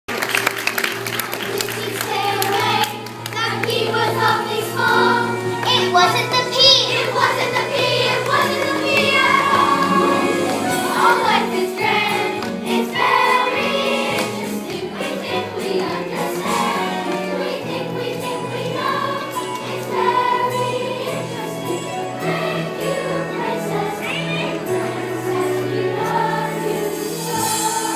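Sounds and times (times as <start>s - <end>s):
instrumental accompaniment: 0.1s - 27.9s
group of voices singing: 1.4s - 27.9s.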